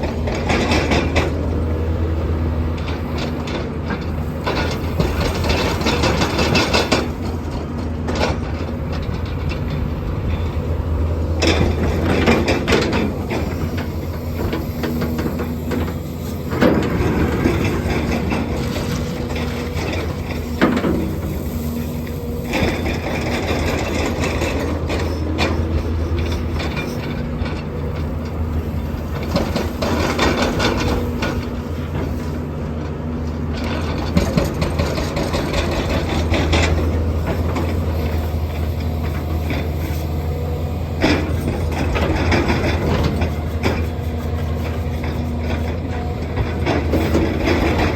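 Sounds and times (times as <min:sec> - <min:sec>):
sharp clanks and knocks: 0:00.0 - 0:01.5, 0:02.7 - 0:47.9
excavator diesel engine running: 0:00.0 - 0:47.9.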